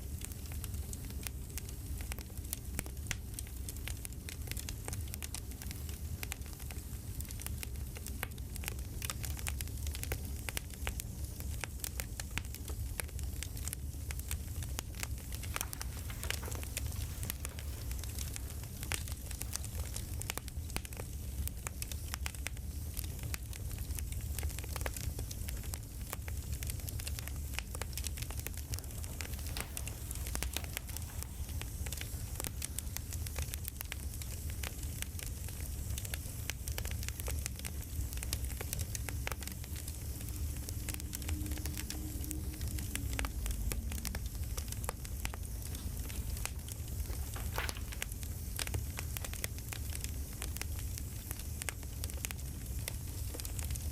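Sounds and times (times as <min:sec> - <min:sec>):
campfire burning rumble: 0:00.0 - 0:53.9
fire popping and snapping: 0:00.0 - 0:53.9.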